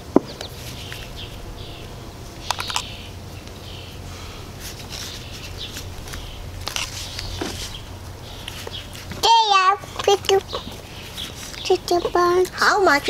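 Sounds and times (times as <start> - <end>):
birds chirping: 0.0 - 13.0
low outdoor rumble: 0.0 - 13.0.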